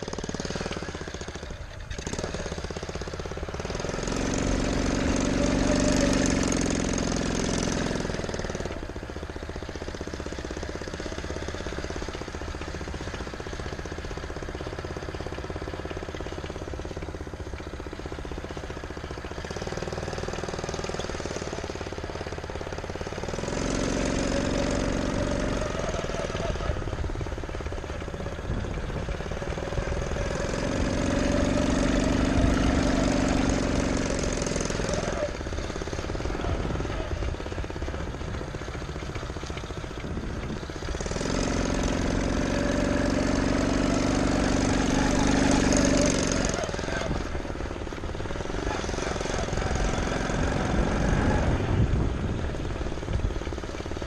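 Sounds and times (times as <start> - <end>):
small gasoline engine revving: 0.0 - 54.0.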